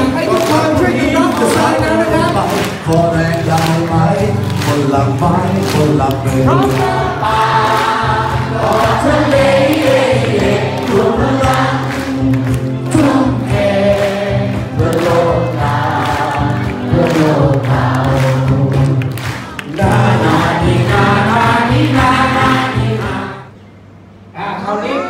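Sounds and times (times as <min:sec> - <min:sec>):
hand claps: 0:00.1 - 0:23.2
group singing with acoustic guitar: 0:00.7 - 0:23.6.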